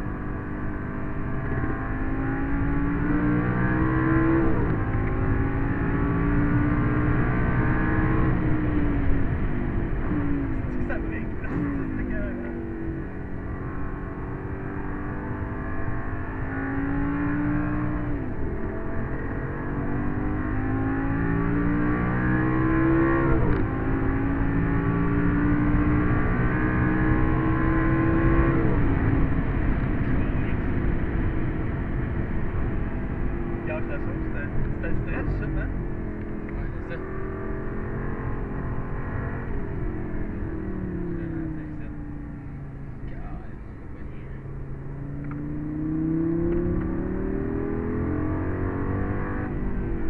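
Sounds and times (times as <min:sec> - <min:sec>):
car engine accelerating hard: 0:00.0 - 0:50.0.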